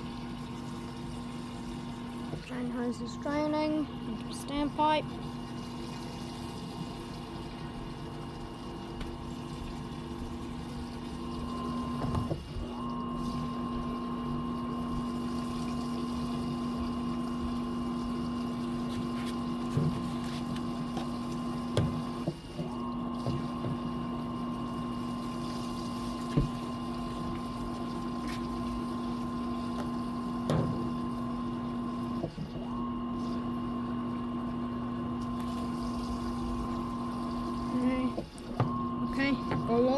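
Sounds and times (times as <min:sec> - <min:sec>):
drain pump humming: 0:00.0 - 0:39.9.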